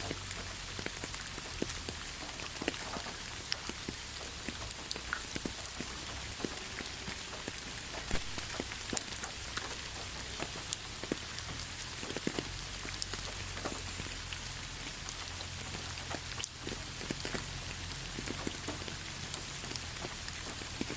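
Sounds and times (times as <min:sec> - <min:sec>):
rain hissing: 0:00.0 - 0:20.9
raindrops tapping on a surface: 0:00.0 - 0:20.9.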